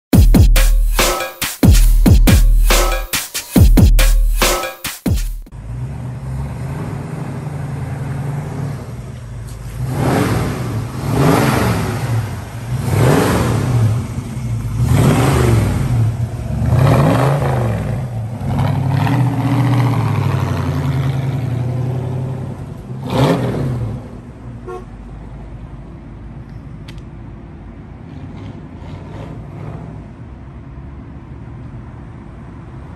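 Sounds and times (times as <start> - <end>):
car engine idling and revving: 5.1 - 32.9.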